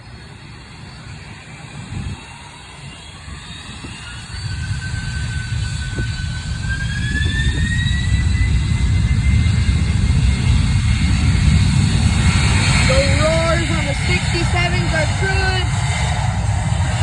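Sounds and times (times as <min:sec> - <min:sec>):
jet engines spooling up: 0:00.0 - 0:17.0.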